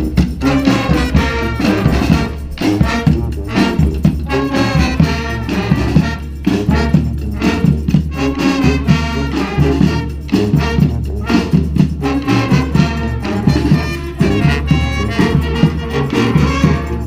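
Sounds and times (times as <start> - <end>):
brass band playing dance tune: 0.0 - 17.0.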